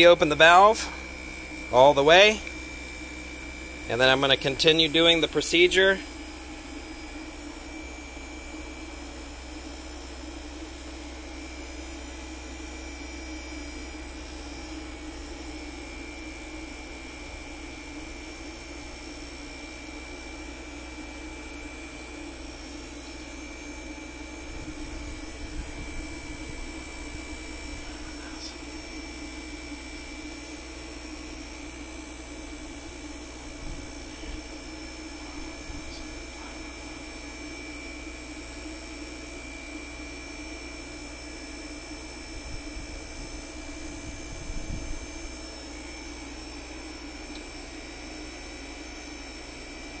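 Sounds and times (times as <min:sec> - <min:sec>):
air conditioner whirring drone: 0:00.0 - 0:50.0.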